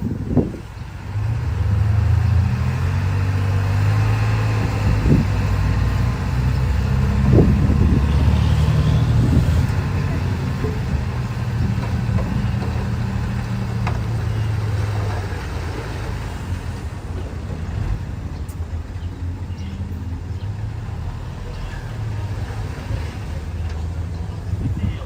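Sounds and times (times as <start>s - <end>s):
heavy machinery diesel engine running: 0.0s - 25.0s.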